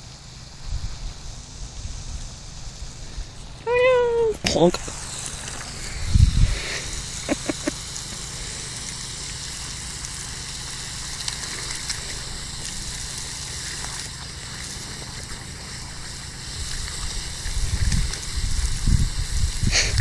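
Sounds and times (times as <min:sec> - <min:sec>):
water spraying from hose: 0:00.0 - 0:20.0.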